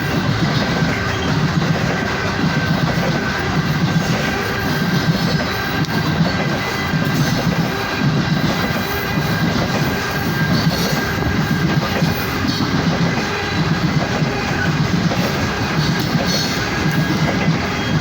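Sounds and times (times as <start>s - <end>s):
train wheels clattering on rails: 0.0s - 18.0s.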